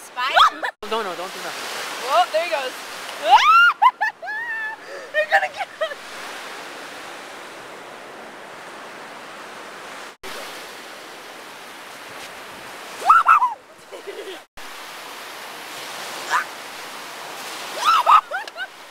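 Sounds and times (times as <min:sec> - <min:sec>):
surf on a beach: 0:00.0 - 0:18.9.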